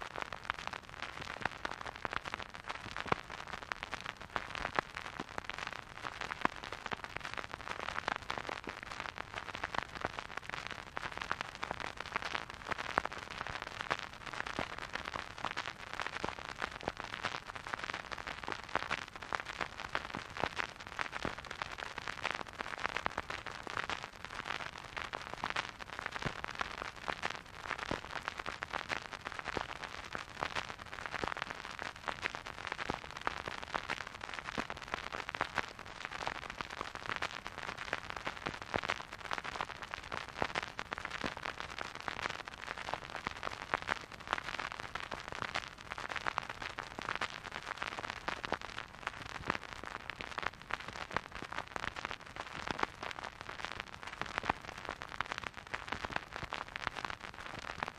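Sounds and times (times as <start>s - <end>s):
vinyl record crackle and pops: 0.0s - 57.9s.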